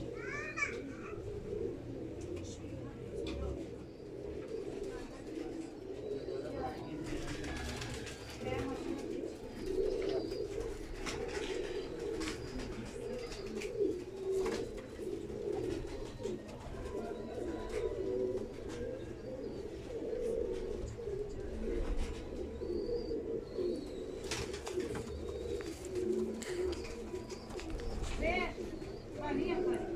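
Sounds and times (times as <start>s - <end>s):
pigeons cooing: 0.0s - 29.9s.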